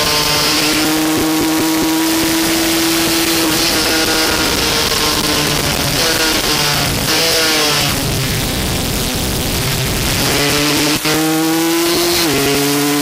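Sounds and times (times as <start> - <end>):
racing motorcycle engine: 0.0 - 13.0.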